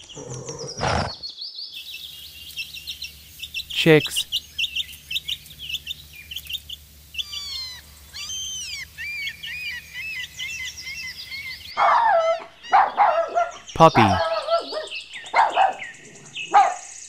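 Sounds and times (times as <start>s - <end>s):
chicks cheeping: 0.0s - 17.0s.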